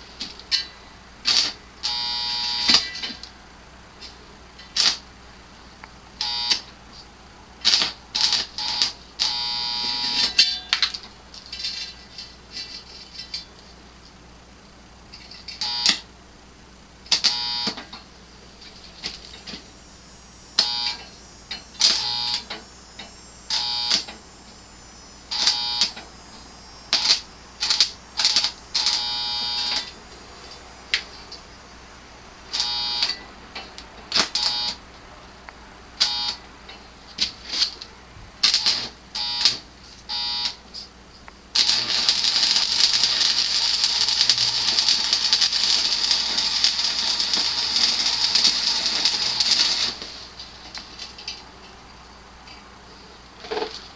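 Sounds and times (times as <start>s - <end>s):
arc welder crackling: 0.0s - 52.7s, 53.3s - 53.9s.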